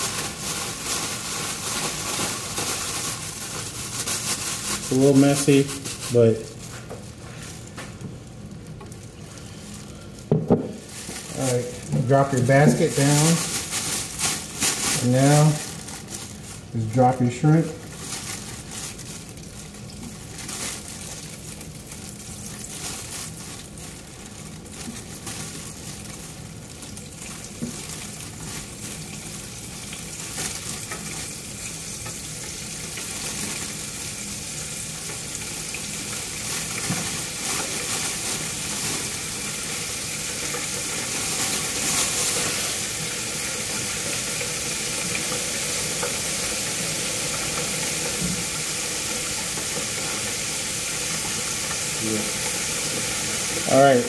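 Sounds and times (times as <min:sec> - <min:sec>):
shrimp deep-frying with crackling pops: 0:00.0 - 0:54.0.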